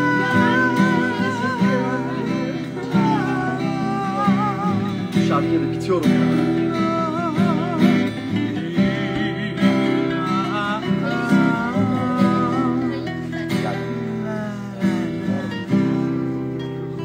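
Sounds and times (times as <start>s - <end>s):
acoustic guitars strumming: 0.0s - 17.0s
man singing with vibrato: 0.0s - 17.0s.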